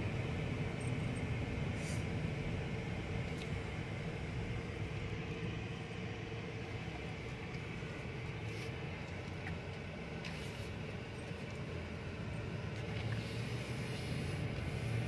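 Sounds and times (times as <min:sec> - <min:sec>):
engine and tyre rumble in cab: 0:00.0 - 0:15.0.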